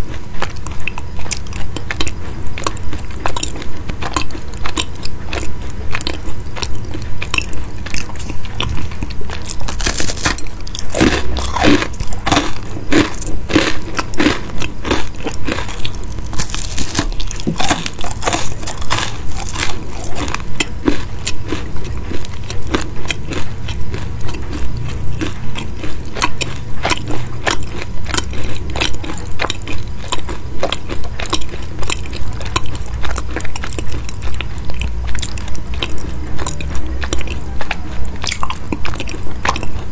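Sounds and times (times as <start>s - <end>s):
person chewing crunchy pastry: 0.0s - 39.9s.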